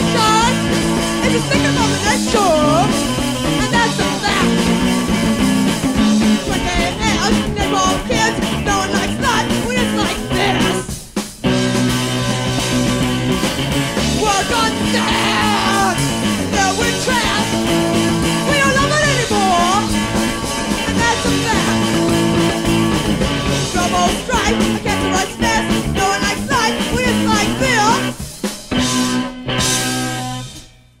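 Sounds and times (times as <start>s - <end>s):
electric guitar melodic lines: 0.0s - 30.7s
rock band playing: 0.0s - 31.0s.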